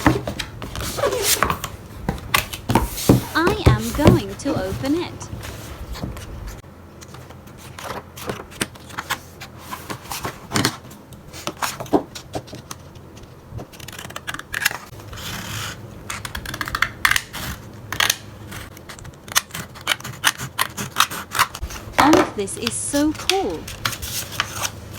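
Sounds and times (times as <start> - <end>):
packaging clicks and scrapes: 0.0 - 24.9.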